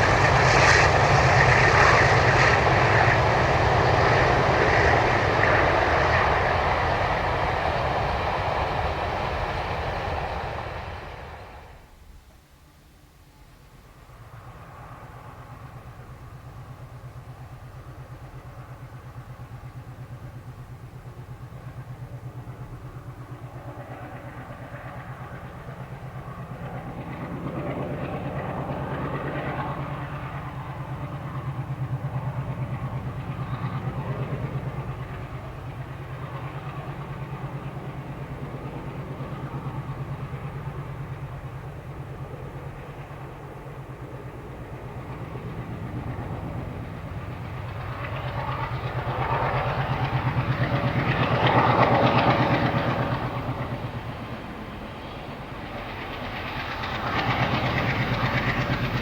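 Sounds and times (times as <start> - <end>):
diesel locomotive engine throbbing: 0.0 - 11.9, 14.6 - 59.0.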